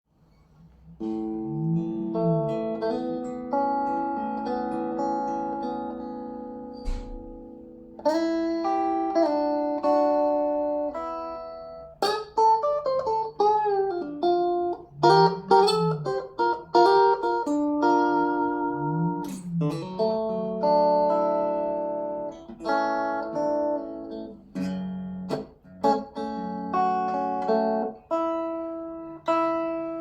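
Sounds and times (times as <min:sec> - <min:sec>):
electric guitar playing: 0:00.5 - 0:30.0.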